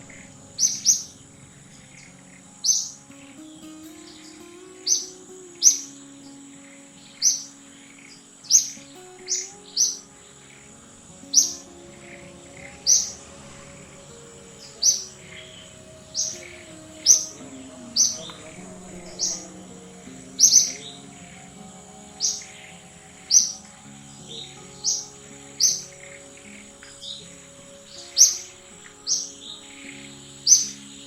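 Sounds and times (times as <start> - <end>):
high-pitched chirping calls: 0.0 - 31.0
quiet background music: 0.0 - 31.0.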